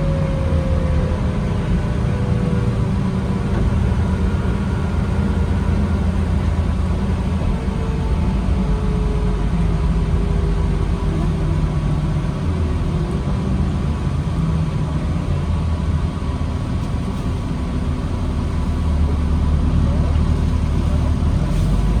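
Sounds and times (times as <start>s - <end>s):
bus engine drone: 0.0s - 22.0s
faint engine whine: 0.0s - 22.0s.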